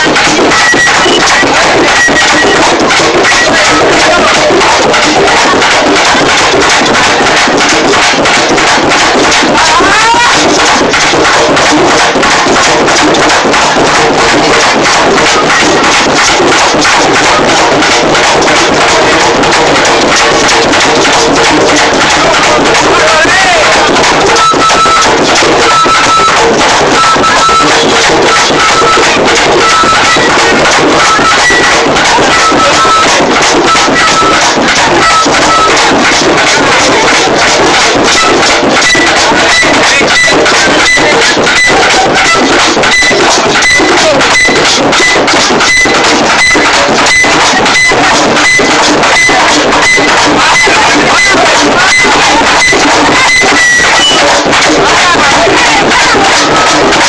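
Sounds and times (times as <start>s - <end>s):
fast hand drumming: 0.0s - 57.0s
short high tone repeating: 0.1s - 57.0s.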